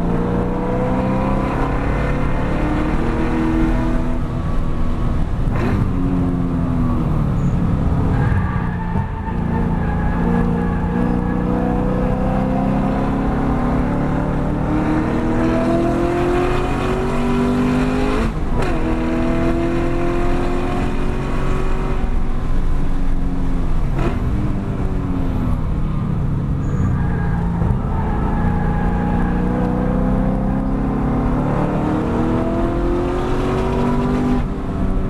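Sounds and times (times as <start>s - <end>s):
car engine accelerating hard: 0.0s - 4.6s, 5.2s - 25.6s, 26.7s - 35.0s.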